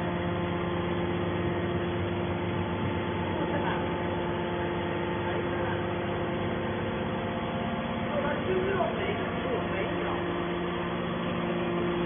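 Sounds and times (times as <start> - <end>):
hydraulic baler humming: 0.0 - 12.0.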